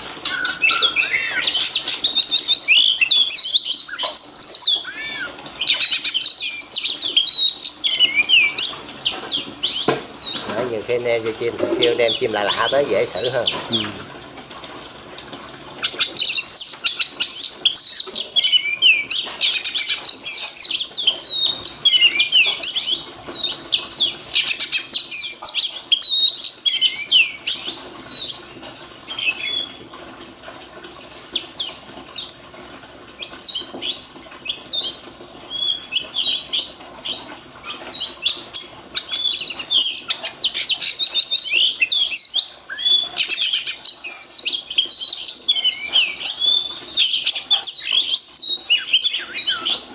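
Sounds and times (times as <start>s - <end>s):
bird singing whistles and chatter: 0.2s - 10.5s, 11.7s - 14.0s, 15.9s - 28.4s, 29.1s - 29.8s, 33.2s - 49.9s.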